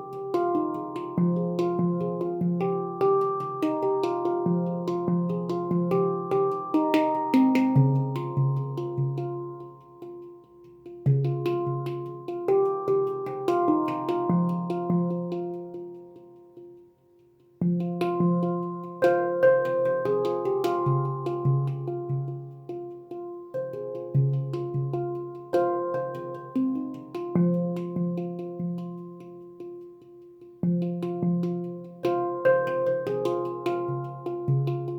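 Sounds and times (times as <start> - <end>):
handpan played by hand: 0.0 - 34.9.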